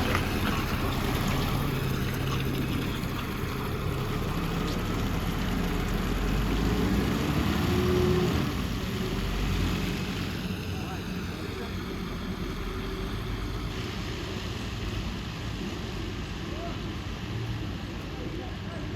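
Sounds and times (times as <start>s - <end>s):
diesel truck engine rumbling: 0.0s - 18.9s.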